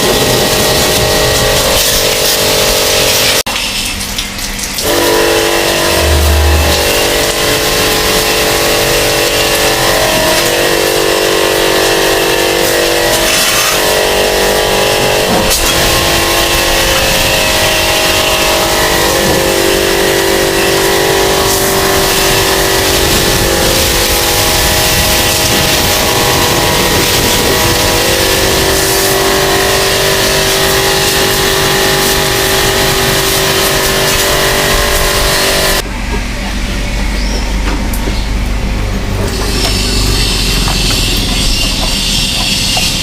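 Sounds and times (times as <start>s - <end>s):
water jet hissing: 0.0s - 35.8s, 39.0s - 43.0s
pressure washer motor humming: 0.0s - 43.0s.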